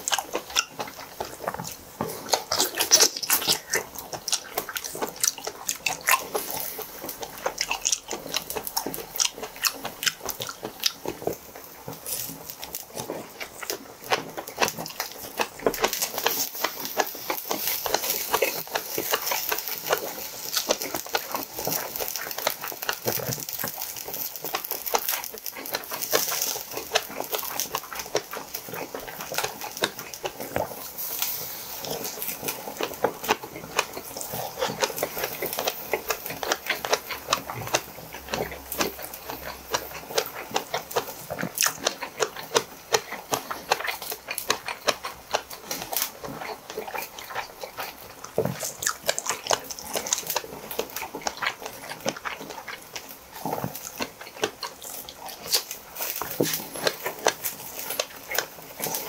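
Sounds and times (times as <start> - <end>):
wet crunchy chewing: 0.0 - 59.0.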